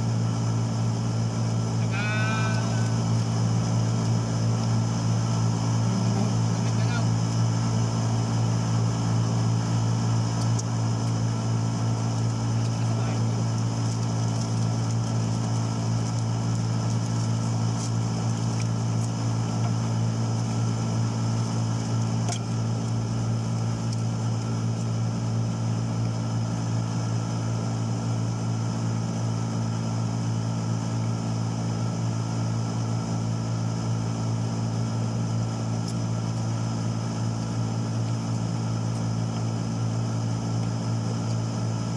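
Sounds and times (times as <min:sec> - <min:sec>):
engine humming steadily: 0:00.0 - 0:41.9.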